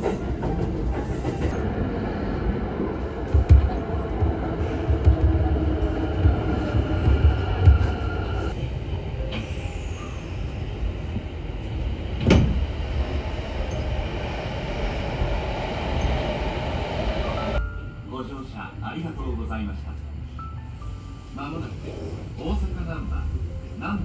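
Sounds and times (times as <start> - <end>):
train rumbling from inside: 0.0 - 24.0.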